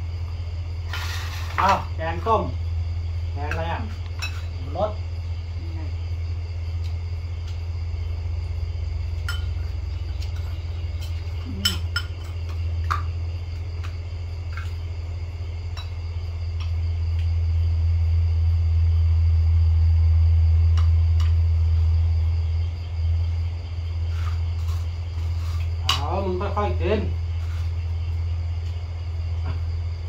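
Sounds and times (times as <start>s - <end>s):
insects ringing: 0.0s - 30.0s
low hum: 0.0s - 30.0s.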